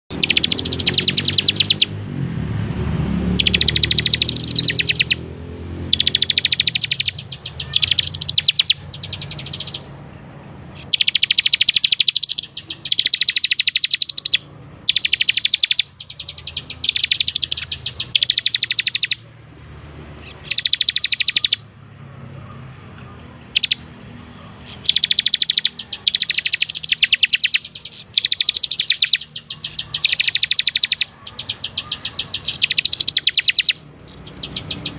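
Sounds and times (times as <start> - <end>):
bird singing fast trilled phrases: 0.0 - 2.1, 3.2 - 19.4, 20.1 - 21.8, 23.4 - 34.9.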